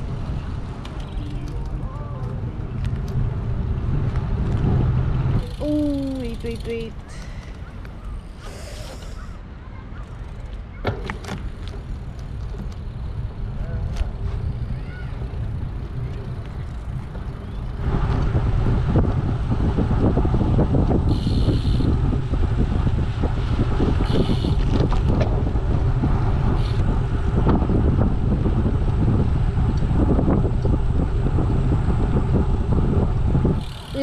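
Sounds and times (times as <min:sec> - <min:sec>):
wind buffeting microphone: 0:00.0 - 0:08.6, 0:09.4 - 0:34.0
tyres rumbling on path: 0:00.0 - 0:34.0.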